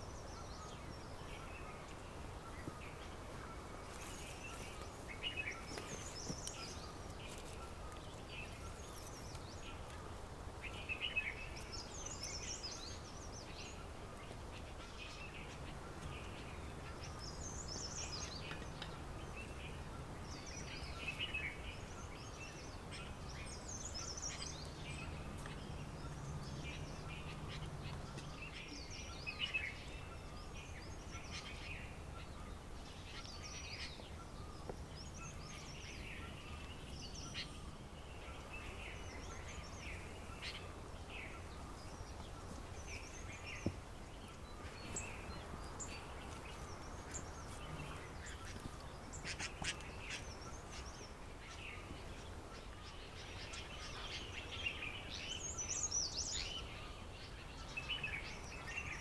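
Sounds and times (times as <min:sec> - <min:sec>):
wild birds chirping and calling: 0:00.0 - 0:59.0.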